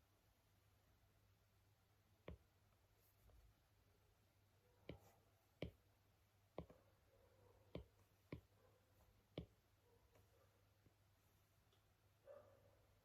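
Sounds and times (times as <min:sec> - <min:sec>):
quiet low hum: 0:00.0 - 0:13.0.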